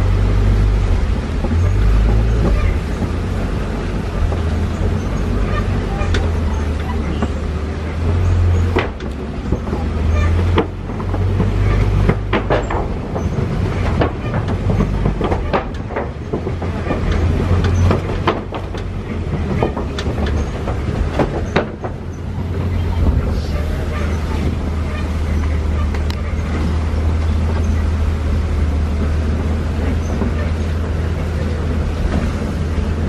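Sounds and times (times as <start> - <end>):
truck engine droning: 0.0 - 33.0
vehicle rattling and knocking: 0.0 - 33.0.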